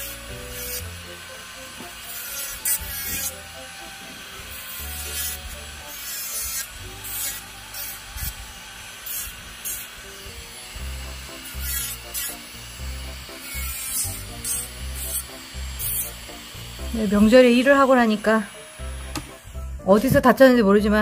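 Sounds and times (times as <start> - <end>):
electric nail drill rasping on fingernail: 0.0 - 19.7
background music: 0.0 - 21.0.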